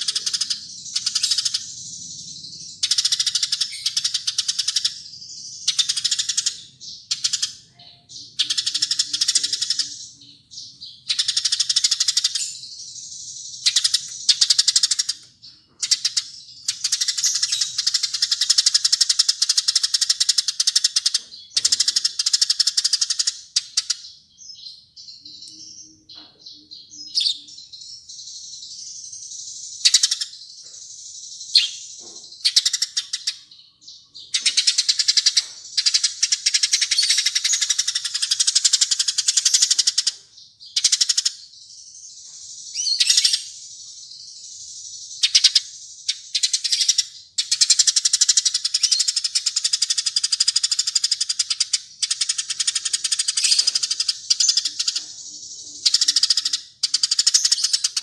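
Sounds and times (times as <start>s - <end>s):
bird chirps: 0.0s - 58.0s
songbird rattling trills: 0.0s - 58.0s.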